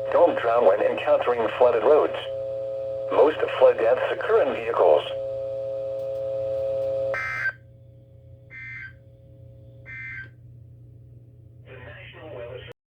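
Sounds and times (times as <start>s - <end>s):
steady buzzing tone: 0.0s - 11.7s.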